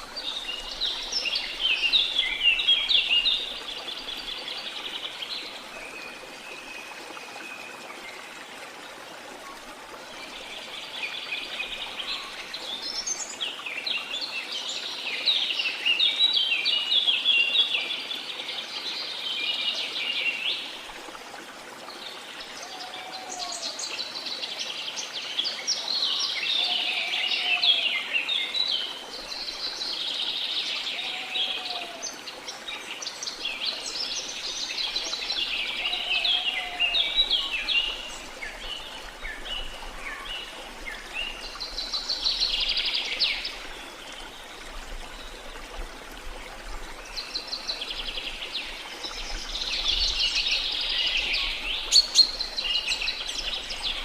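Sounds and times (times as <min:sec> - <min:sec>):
flowing water hiss: 0:00.0 - 0:54.0
songbirds chirping: 0:00.0 - 0:54.0.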